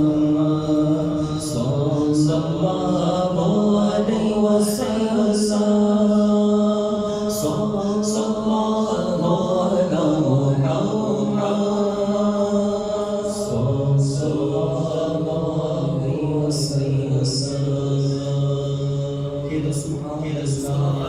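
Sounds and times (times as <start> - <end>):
man chanting slow melody: 0.0 - 21.0.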